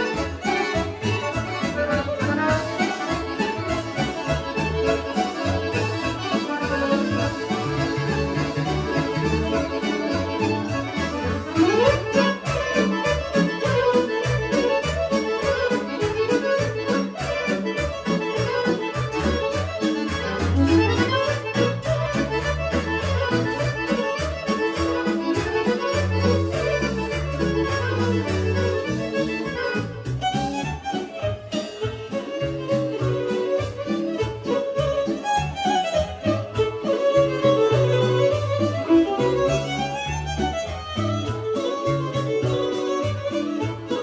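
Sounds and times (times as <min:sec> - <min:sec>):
folk dance music with accordion: 0:00.0 - 0:44.0.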